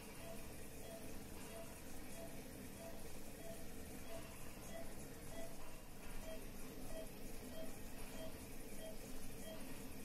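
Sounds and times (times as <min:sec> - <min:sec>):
ventilator hiss: 0:00.0 - 0:10.0.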